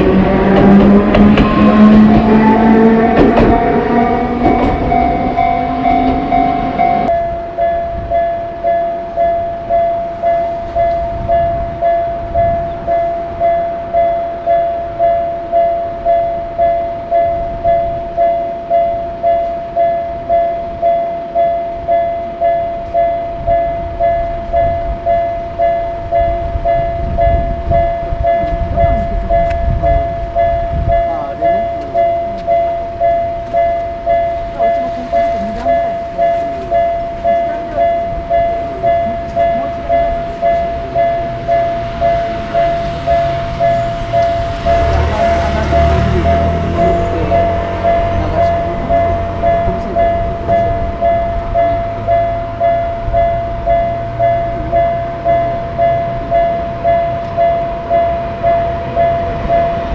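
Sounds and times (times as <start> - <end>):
railroad crossing warning bell ringing: 0.0 - 59.9
train rumbling: 0.0 - 59.9.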